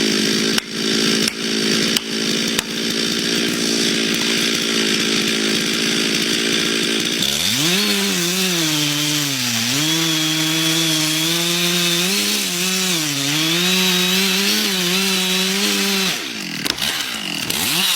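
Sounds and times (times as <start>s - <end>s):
chainsaw engine running: 0.0s - 17.9s.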